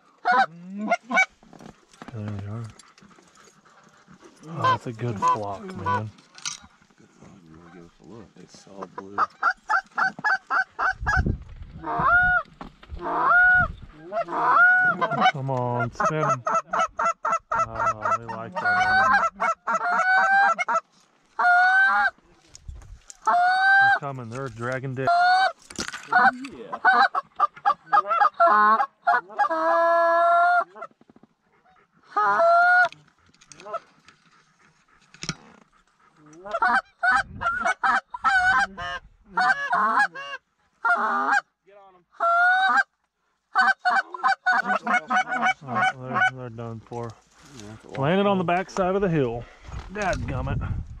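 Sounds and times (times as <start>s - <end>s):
goose call clucks and honks: 0.0s - 6.9s, 7.5s - 22.2s, 23.1s - 41.6s, 42.2s - 46.4s.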